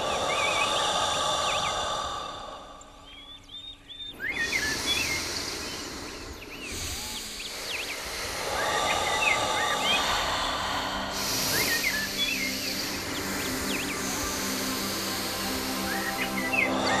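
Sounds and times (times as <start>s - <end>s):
birds chirping: 0.0s - 17.0s
outdoor background hiss: 0.0s - 17.0s.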